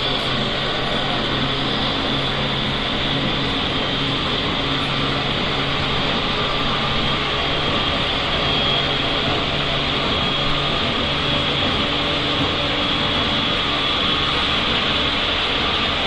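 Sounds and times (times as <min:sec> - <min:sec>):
train rolling noise: 0:00.0 - 0:16.0.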